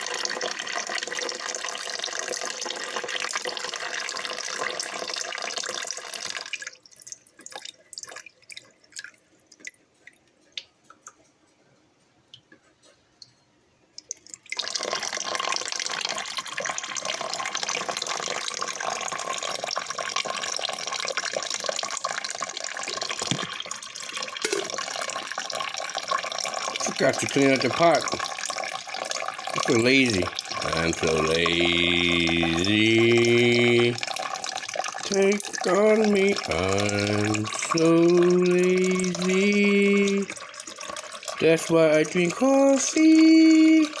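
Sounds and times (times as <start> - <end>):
water pouring into coffee maker: 0.0 - 10.2, 14.0 - 44.0
water dripping: 0.0 - 11.4, 12.3 - 44.0.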